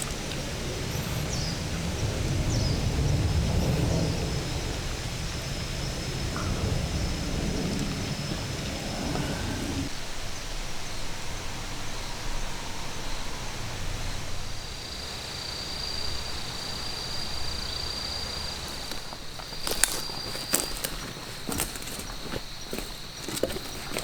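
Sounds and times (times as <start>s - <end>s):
wind rumble and rustling: 0.0s - 24.0s.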